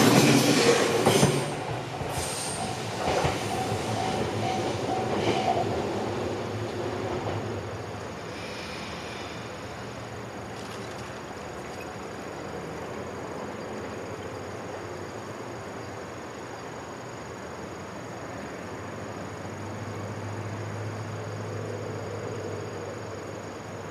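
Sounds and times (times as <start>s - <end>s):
insects droning: 0.0s - 23.9s.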